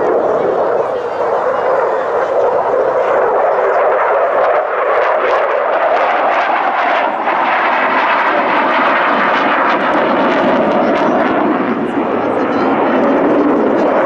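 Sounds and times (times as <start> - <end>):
aircraft engine rush: 0.0 - 14.0.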